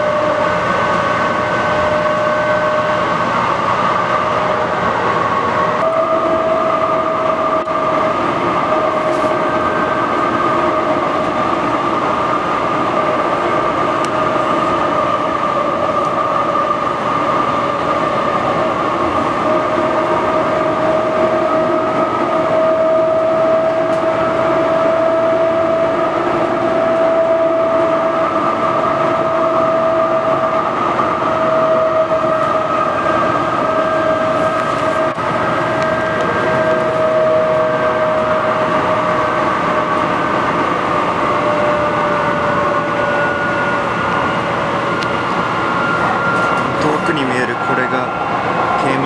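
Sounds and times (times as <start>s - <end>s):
train rumble with whining tone: 0.0s - 49.0s.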